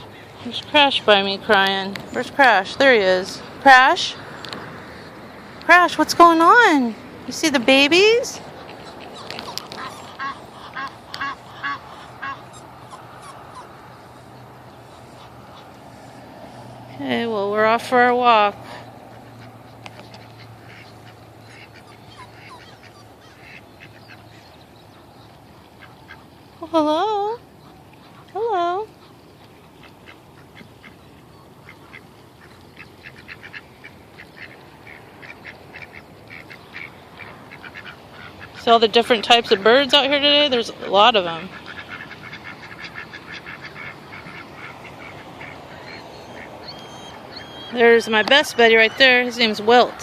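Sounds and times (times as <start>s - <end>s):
ducks quacking: 7.3s - 26.7s, 27.5s - 50.0s
waterfowl calling: 7.3s - 50.0s.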